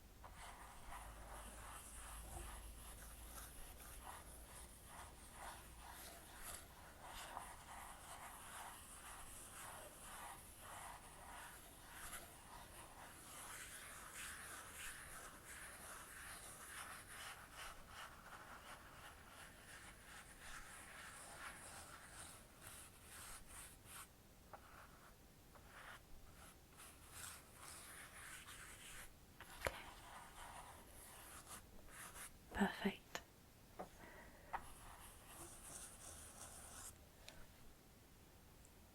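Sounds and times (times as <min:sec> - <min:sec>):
soft brush swishing: 0:00.2 - 0:33.0, 0:34.0 - 0:37.5.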